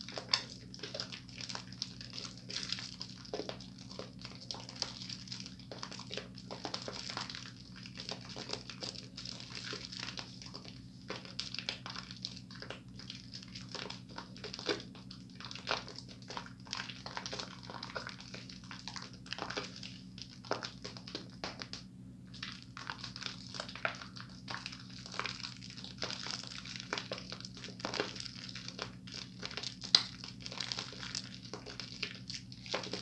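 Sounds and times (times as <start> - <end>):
soap squelching between hands: 0.0 - 33.0.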